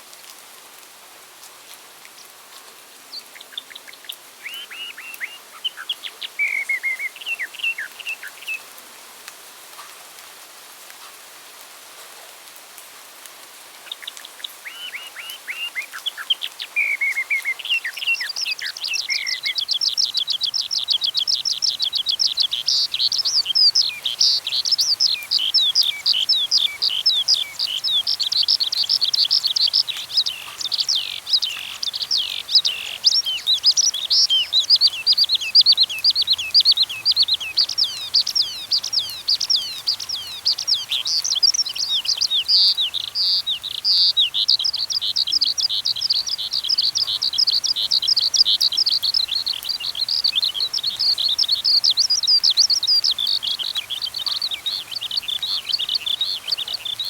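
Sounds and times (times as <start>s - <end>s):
songbirds singing: 3.1s - 8.7s, 13.8s - 57.0s.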